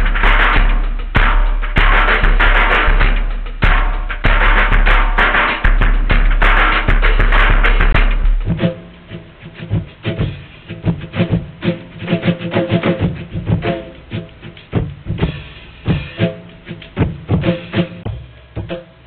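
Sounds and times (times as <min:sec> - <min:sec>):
music with drums and percussion: 0:00.0 - 0:19.0.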